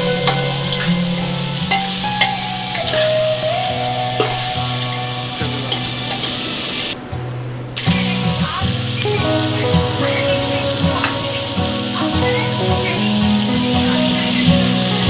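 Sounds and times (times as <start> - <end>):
onions sizzling in oil: 0.0 - 7.0, 7.8 - 15.0.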